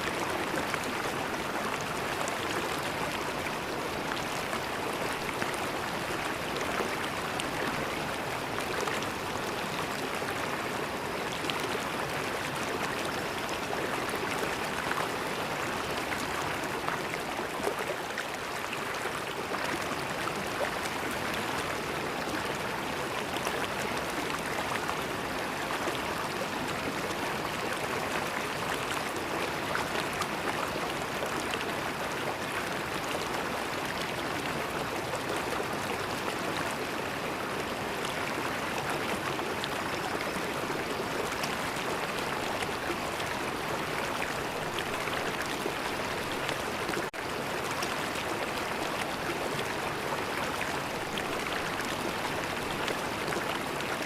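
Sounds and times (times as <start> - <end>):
shallow stream flowing: 0.0 - 54.0.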